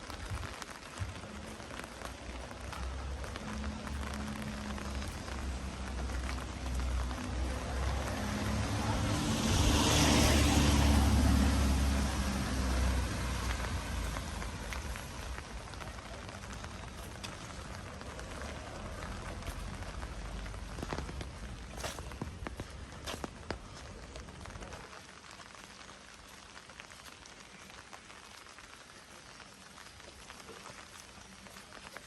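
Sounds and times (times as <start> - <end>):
vehicle engine rumble: 0.0 - 25.8
steady rain falling: 0.0 - 32.0
tyre hiss on wet road: 0.0 - 32.0.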